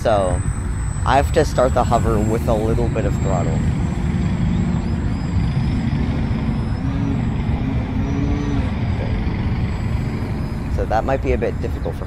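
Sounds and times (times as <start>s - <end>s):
loud low rumble: 0.0s - 12.0s
rc plane motor whining: 0.2s - 10.8s.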